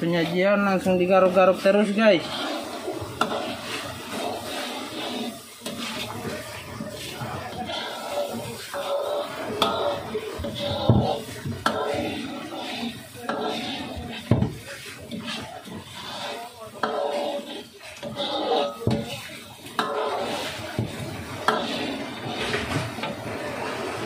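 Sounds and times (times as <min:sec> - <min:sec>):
metal spoon stirring thick sauce: 0:00.0 - 0:23.9
spoon scraping a wok: 0:00.0 - 0:24.0.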